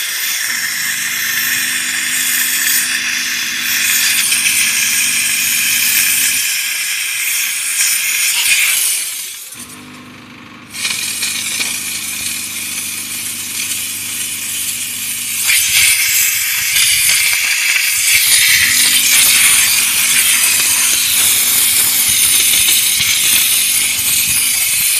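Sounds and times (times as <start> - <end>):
steam gun hissing: 0.0 - 9.7, 10.7 - 24.9.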